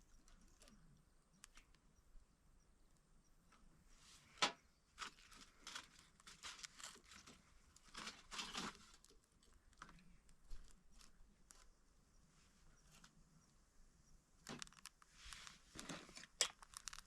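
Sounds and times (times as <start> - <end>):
faint crinkling and rustling: 0.0 - 1.9, 3.5 - 13.7, 14.4 - 17.0.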